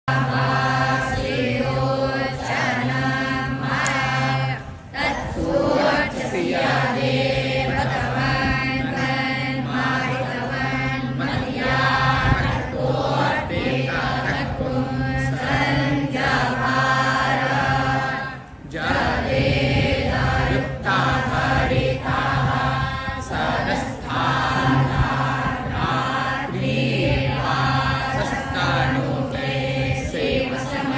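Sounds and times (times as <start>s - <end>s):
voices chanting in unison: 0.0s - 30.9s
steady low drone: 0.1s - 30.9s.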